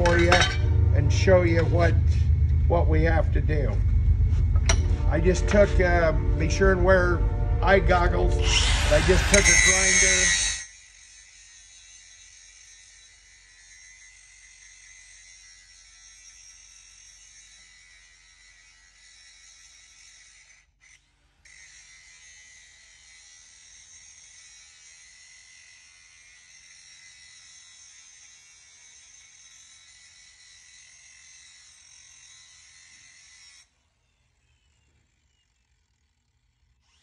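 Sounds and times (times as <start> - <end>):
angle grinder grinding steel: 0.0 - 37.0.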